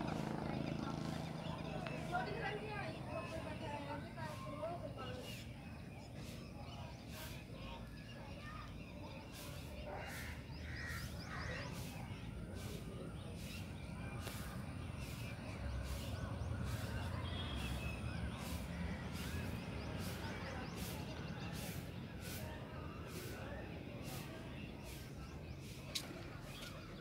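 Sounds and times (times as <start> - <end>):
birds calling: 0.0 - 27.0.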